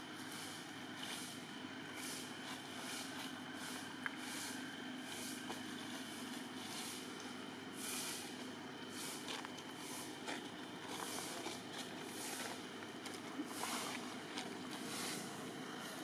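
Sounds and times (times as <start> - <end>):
outdoor background hum and hiss: 0.0 - 16.0.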